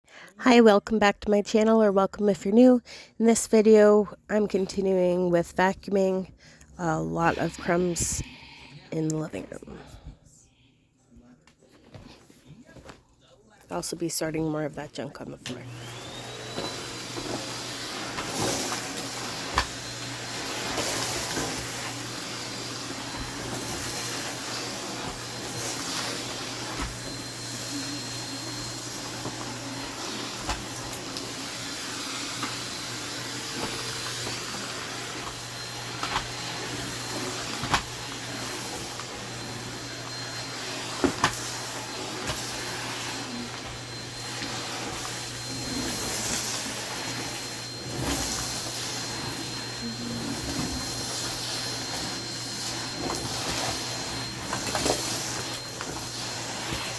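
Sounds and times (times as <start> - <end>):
vacuum cleaner running: 4.5 - 10.1, 13.7 - 56.9.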